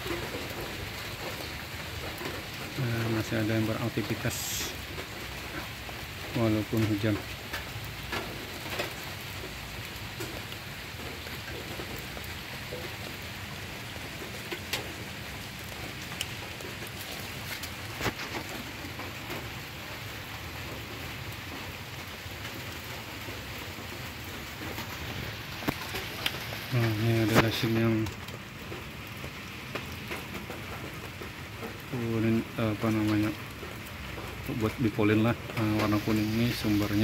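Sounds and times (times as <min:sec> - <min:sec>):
raindrops ticking close by: 0:00.0 - 0:37.0
steady rain: 0:00.0 - 0:37.0.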